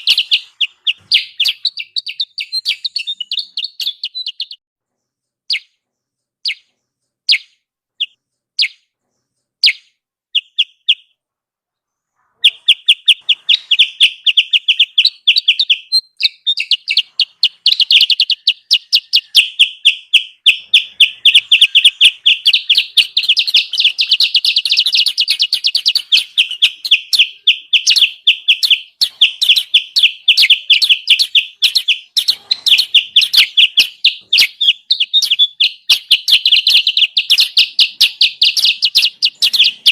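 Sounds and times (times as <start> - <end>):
bird high chirps: 0.0 - 11.2, 11.8 - 39.9.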